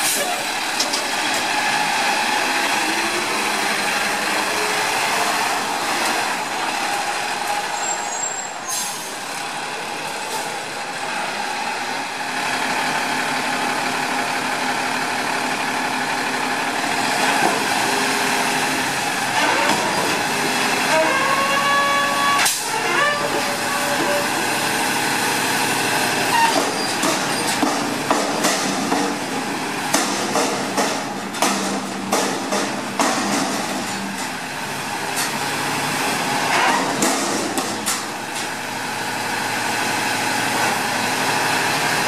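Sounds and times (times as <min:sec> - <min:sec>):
garbage truck engine and hydraulics: 0:00.0 - 0:42.0.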